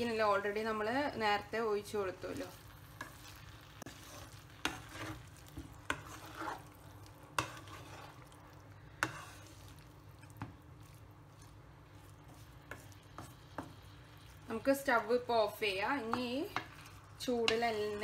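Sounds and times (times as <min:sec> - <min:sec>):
wooden spatula stirring in pan: 0:00.0 - 0:18.0.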